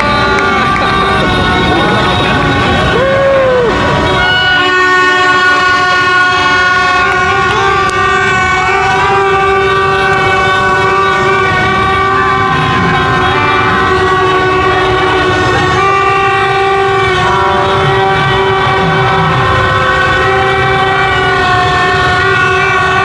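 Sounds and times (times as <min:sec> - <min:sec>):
many horns blaring: 0:00.0 - 0:23.0
street noise: 0:00.0 - 0:23.0.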